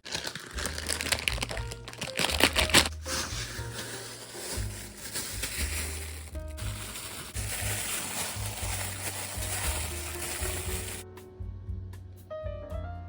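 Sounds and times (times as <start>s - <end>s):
sharp crackling and crinkling: 0.0s - 11.0s
background music with low bass: 0.6s - 13.0s.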